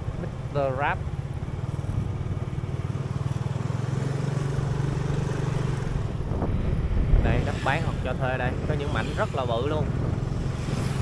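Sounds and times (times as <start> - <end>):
road and wind noise: 0.0 - 11.0
vehicle engine hum: 0.0 - 11.0.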